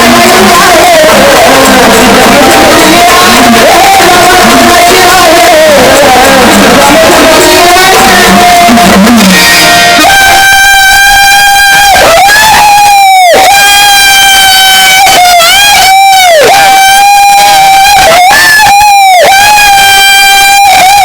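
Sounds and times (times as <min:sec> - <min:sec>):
live folk singing with music: 0:00.0 - 0:21.0
steady held tone: 0:00.0 - 0:21.0.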